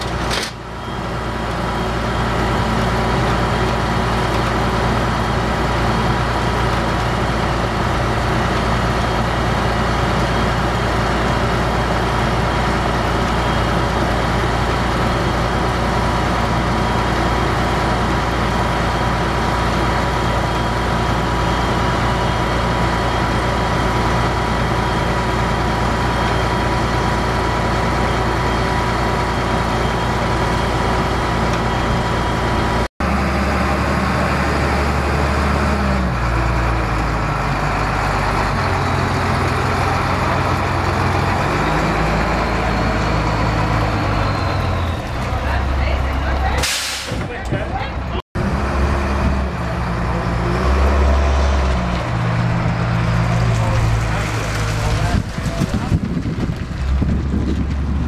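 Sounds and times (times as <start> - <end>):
tow truck engine running: 0.0 - 58.0.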